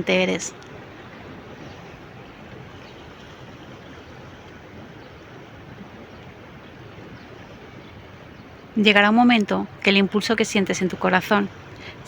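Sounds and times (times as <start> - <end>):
sea surf waves: 0.0 - 12.0.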